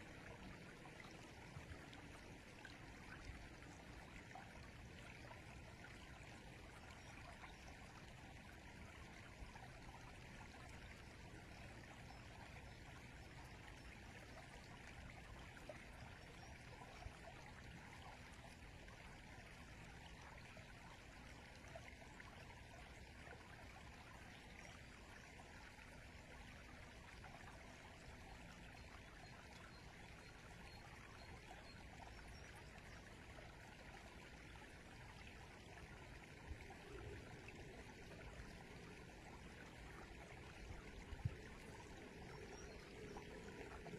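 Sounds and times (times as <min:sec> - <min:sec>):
faint river flowing: 0:00.0 - 0:43.9.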